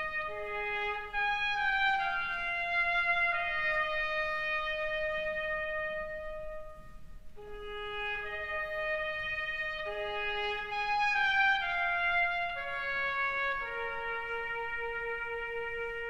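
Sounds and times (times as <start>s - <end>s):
slow brass theme music: 0.0s - 16.0s.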